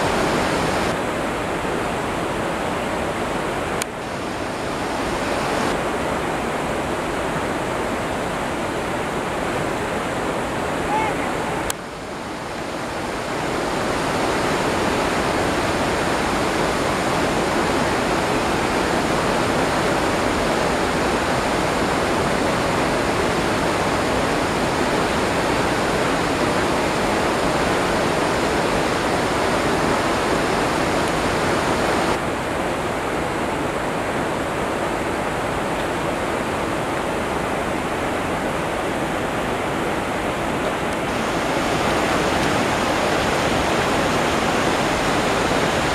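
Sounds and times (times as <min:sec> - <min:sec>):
river water over rocks: 0:00.0 - 0:45.9.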